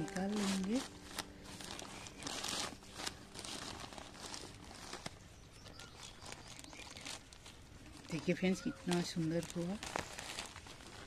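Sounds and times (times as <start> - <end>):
hands digging in soil: 0.0 - 11.0.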